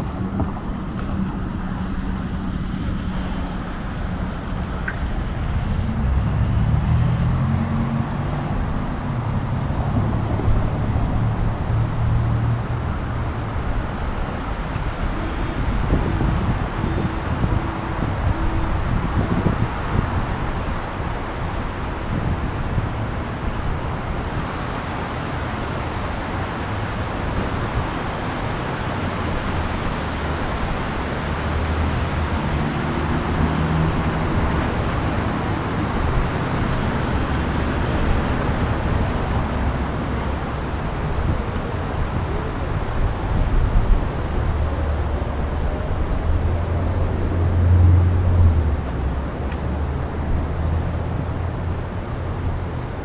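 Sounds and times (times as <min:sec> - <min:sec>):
hiss of passing vehicles: 0:00.0 - 0:53.0
low engine hum: 0:00.0 - 0:53.0
wind buffeting microphone: 0:00.0 - 0:53.0.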